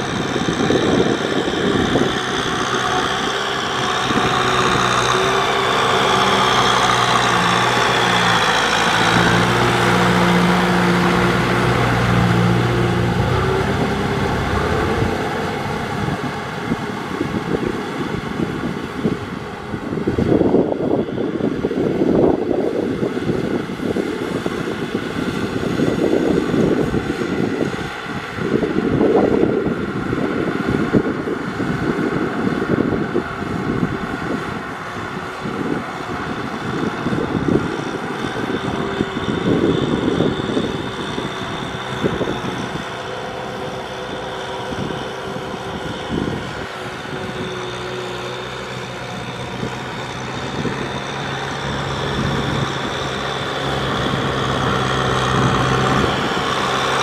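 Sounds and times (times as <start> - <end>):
tractor diesel engine rumbling: 0.0 - 57.0.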